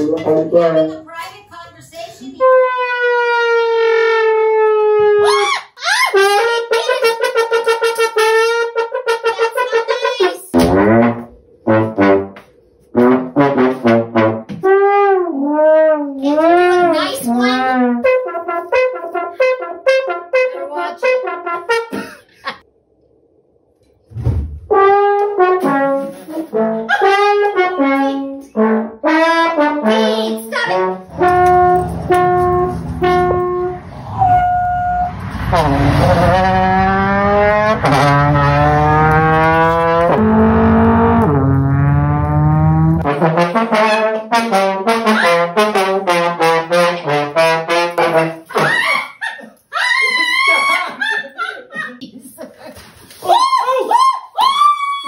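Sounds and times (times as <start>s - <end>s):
trombone comic blasts and slides: 2.4s - 22.6s, 24.1s - 49.1s.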